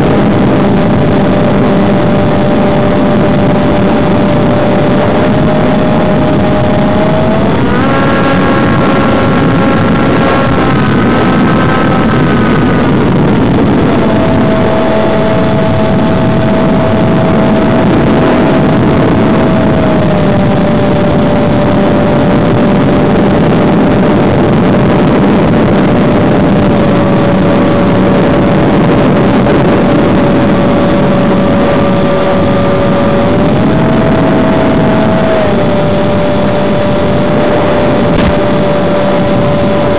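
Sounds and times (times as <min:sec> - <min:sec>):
electric motor propeller whine: 0:00.0 - 0:39.9
rushing air noise: 0:00.0 - 0:39.9.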